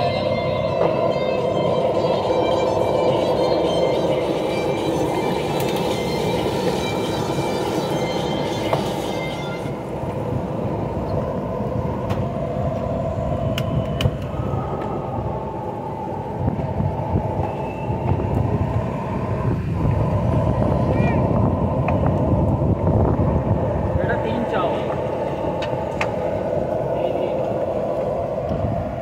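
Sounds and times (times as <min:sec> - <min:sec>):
gas burners roaring: 0:00.0 - 0:29.0.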